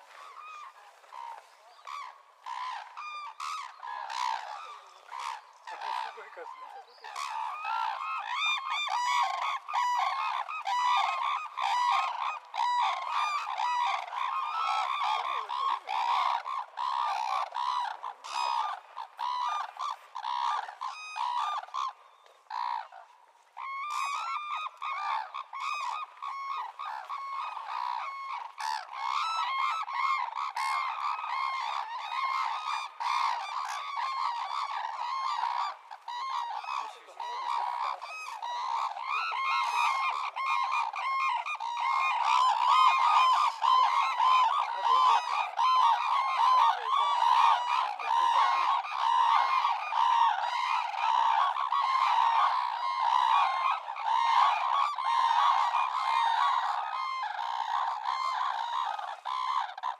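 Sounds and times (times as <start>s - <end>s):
cranes honking calls: 0.2s - 22.9s, 23.6s - 59.9s.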